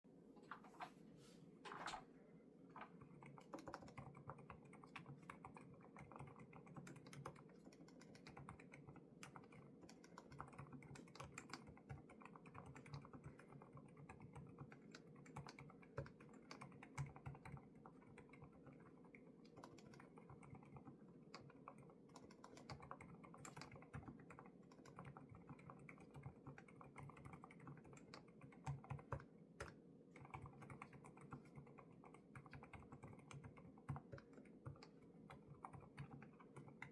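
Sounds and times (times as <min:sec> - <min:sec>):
mechanical keyboard typing: 0:02.8 - 0:36.9.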